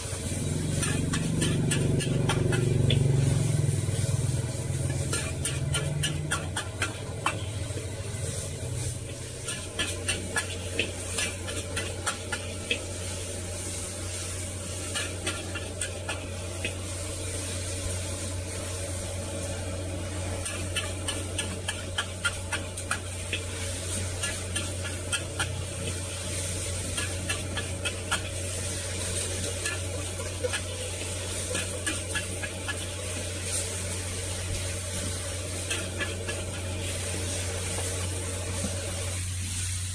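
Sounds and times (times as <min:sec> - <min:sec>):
food sizzling: 0:00.0 - 0:39.9
metal utensils scraping a wok: 0:00.2 - 0:17.8, 0:20.2 - 0:37.9.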